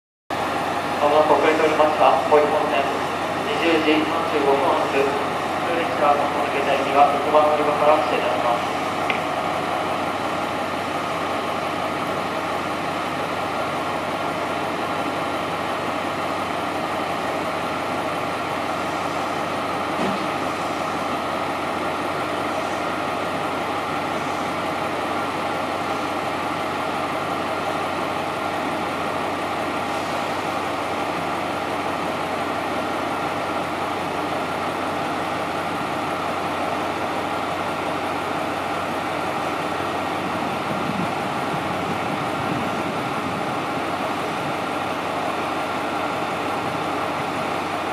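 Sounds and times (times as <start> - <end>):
diesel railcar engine idling: 0.3 - 47.9.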